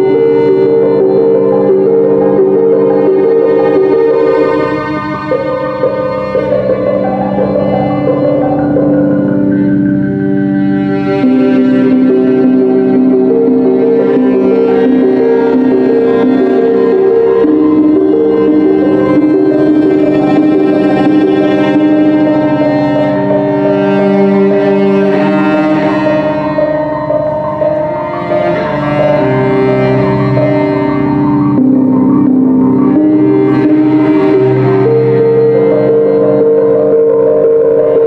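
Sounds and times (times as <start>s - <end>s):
bowed cello sustained notes: 0.0s - 38.0s
droning electronic keyboard: 0.0s - 38.0s.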